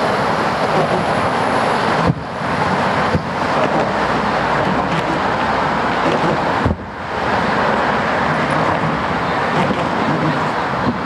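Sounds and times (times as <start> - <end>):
road traffic rushing: 0.0 - 11.0
wind on microphone: 0.0 - 11.0.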